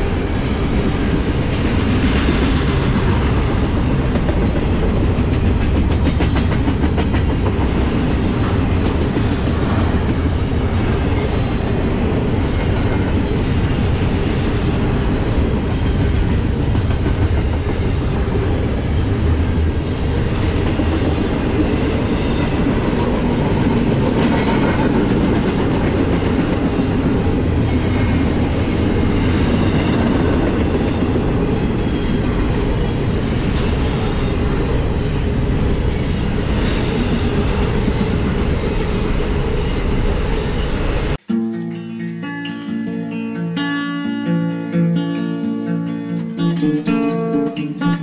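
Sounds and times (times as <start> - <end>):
steel train wheels on rails: 0.0 - 41.2.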